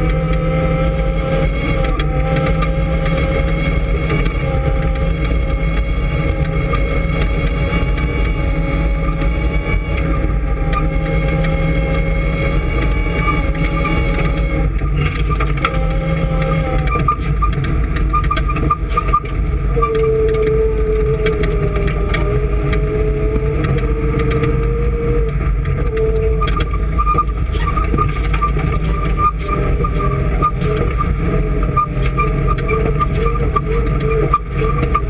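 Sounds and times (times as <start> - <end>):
clicks and rattles: 0.0 - 35.0
engine running with a whine: 0.0 - 35.0.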